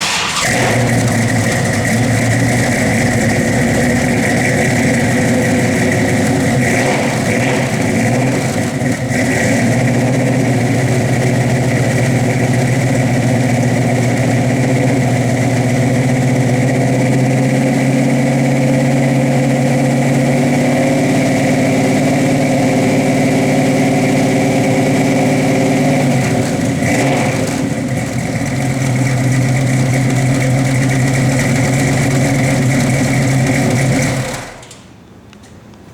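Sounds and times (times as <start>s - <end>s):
car engine idling: 0.0s - 34.8s.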